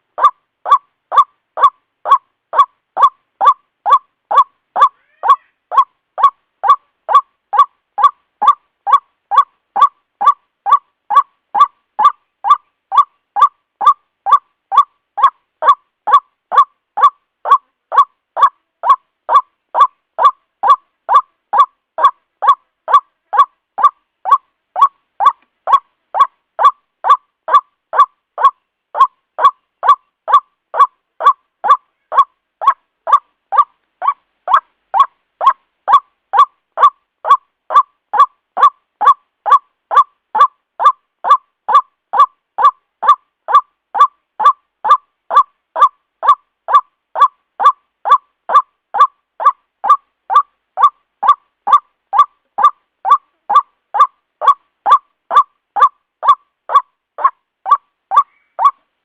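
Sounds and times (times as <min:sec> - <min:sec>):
waterhen calling: 0:00.0 - 0:58.9.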